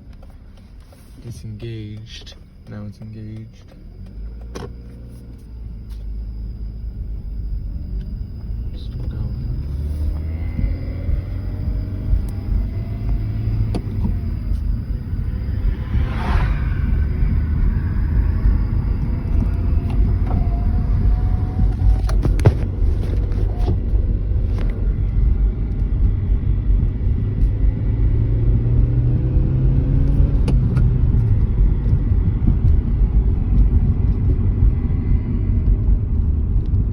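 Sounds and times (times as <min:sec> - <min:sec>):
car cabin low rumble: 0:00.0 - 0:36.9
low hum: 0:00.0 - 0:36.9.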